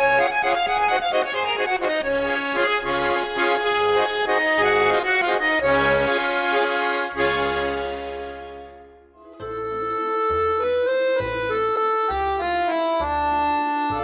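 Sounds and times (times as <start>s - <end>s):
accordion folk tune: 0.0s - 14.0s.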